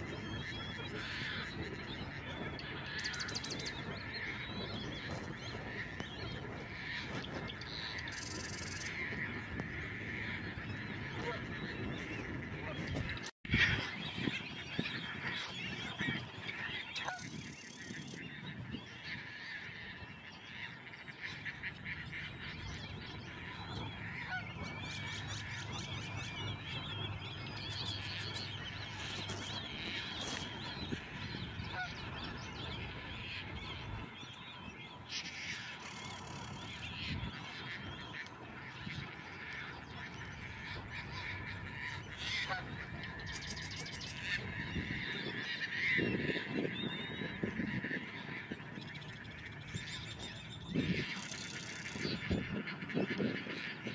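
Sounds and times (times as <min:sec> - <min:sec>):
waterbirds honking: 0:00.0 - 0:53.9.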